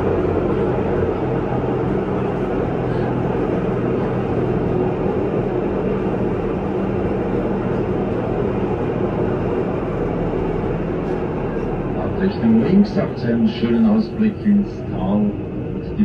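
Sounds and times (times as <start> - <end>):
cogwheel railcar running: 0.0 - 16.0.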